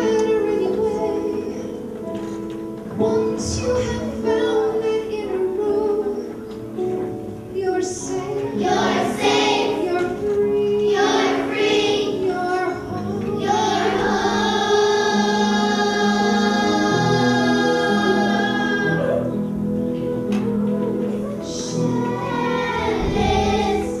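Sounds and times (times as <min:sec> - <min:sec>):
woman and children singing: 0:00.0 - 0:01.9, 0:03.0 - 0:06.5, 0:07.6 - 0:19.2, 0:21.4 - 0:24.0
piano accompaniment: 0:00.0 - 0:24.0.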